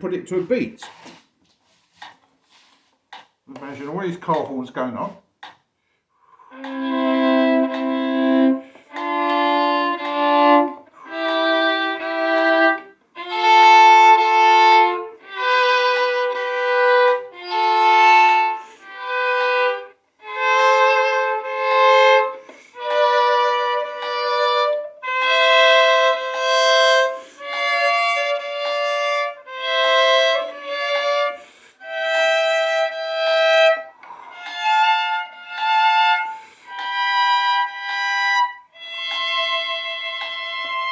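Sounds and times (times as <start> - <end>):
violin double-stopped chords: 6.5 - 40.9.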